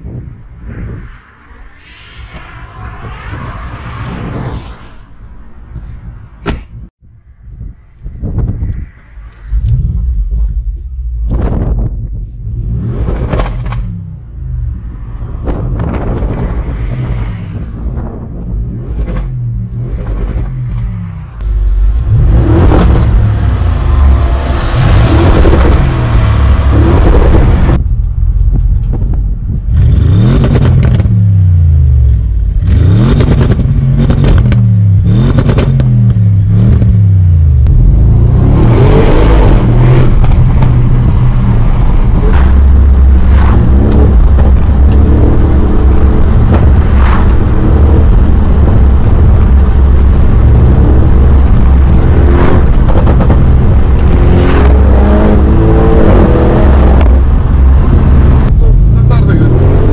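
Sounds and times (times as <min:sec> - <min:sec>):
road noise: 0:00.0 - 0:59.9
car engine revving: 0:09.3 - 0:28.2, 0:28.8 - 0:59.9.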